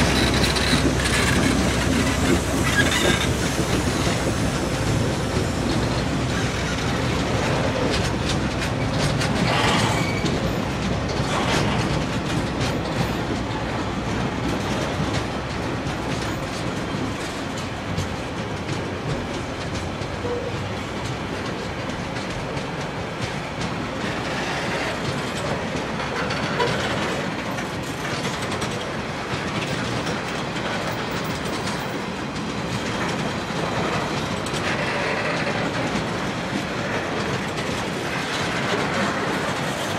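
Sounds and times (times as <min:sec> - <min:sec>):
clickety-clack over rail joints: 0:00.0 - 0:39.9
train wheels rumbling on rail: 0:00.0 - 0:39.9.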